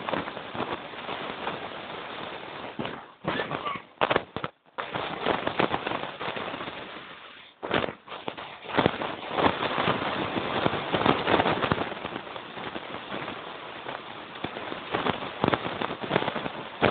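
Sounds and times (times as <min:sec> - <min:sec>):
sleds scraping over snow: 0:00.0 - 0:16.9.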